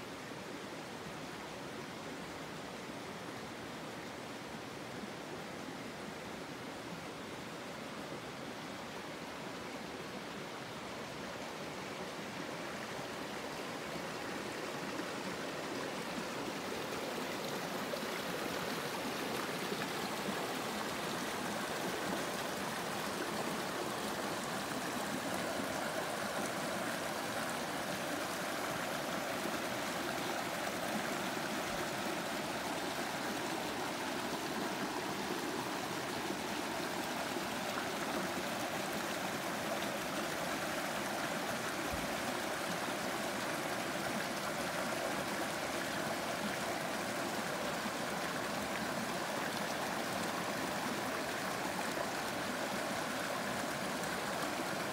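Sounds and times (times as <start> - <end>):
stream babbling over rocks: 0.1 - 54.9.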